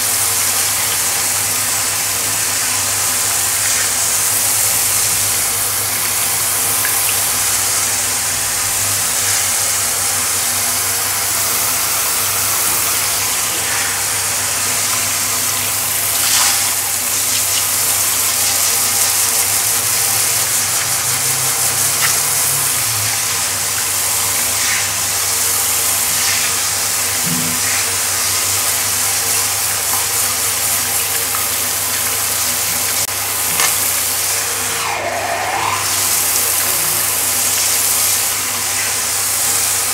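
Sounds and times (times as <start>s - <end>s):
shower spraying on tiled floor: 0.0s - 34.9s, 35.8s - 39.9s.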